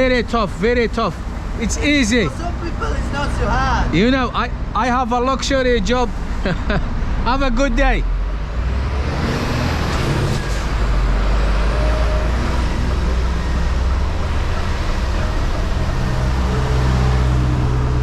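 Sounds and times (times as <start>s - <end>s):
lorry diesel engine running: 0.0s - 18.0s.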